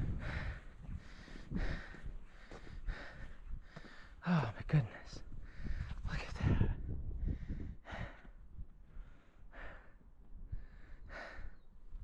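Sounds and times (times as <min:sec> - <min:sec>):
person breathing heavily: 0:00.0 - 0:11.7.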